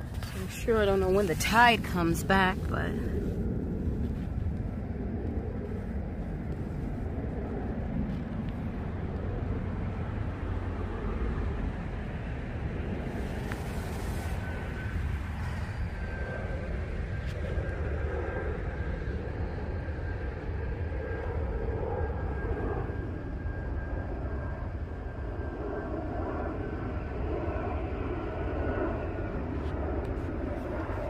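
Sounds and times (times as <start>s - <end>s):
distant engine drone: 0.0s - 31.0s
faint high whine: 0.0s - 31.0s.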